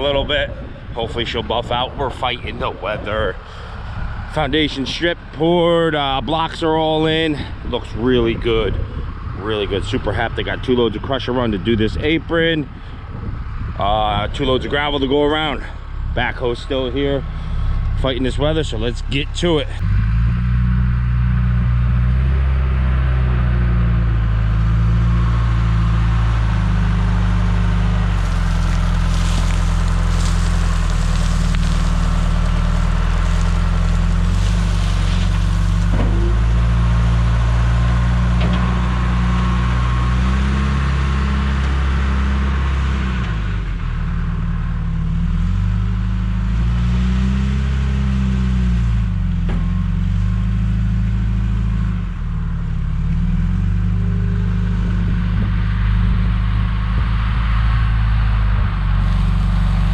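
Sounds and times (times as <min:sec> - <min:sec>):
gritty noise: 0:00.0 - 0:43.6, 0:53.1 - 0:59.9
diesel engine working: 0:00.0 - 0:59.9.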